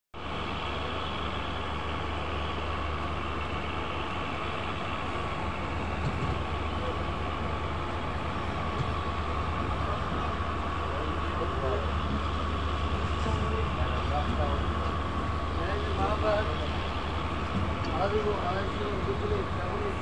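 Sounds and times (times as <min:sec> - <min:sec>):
train wheels rumbling on rails: 0:00.2 - 0:20.0.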